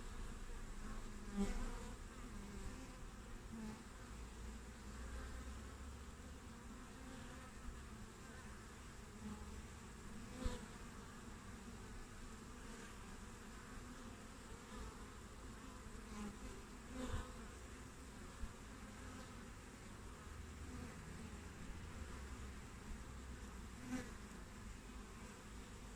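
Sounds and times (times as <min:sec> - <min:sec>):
honeybees buzzing: 0:00.0 - 0:25.9.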